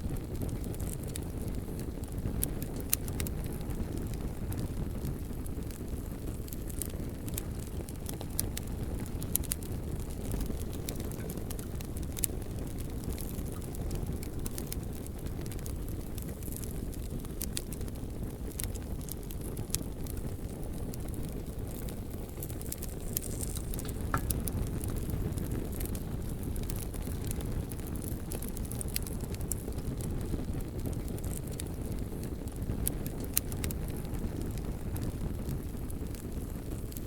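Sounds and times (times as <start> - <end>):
bonfire flames rumbling: 0.0 - 37.0
burning wood crackling: 0.0 - 37.0.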